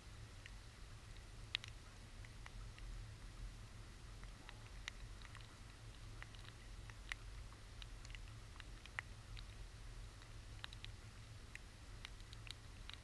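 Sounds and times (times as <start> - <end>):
faint low rumble: 0.0 - 13.0
raindrops ticking on camera: 0.0 - 13.0.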